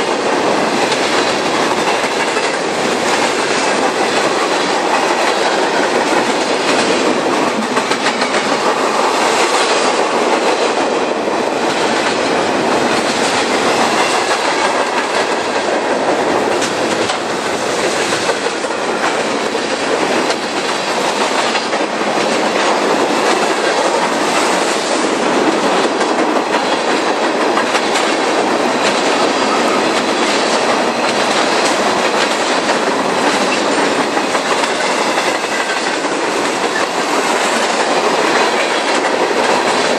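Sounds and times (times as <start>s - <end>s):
railroad cars rumbling on rails: 0.0s - 39.9s
wheels clicking over rail joints: 0.0s - 39.9s.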